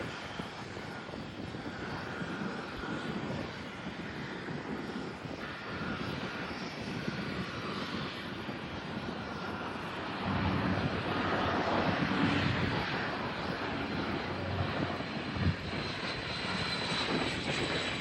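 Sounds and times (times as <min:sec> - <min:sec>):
airliner engines rushing: 0:00.0 - 0:18.0.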